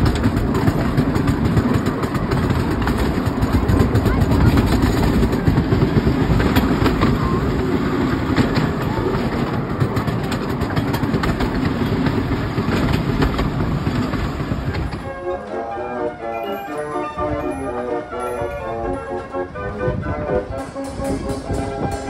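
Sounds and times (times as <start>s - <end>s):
train wheels rumbling on track: 0.0s - 22.0s
wheels clicking and clacking: 0.0s - 22.0s.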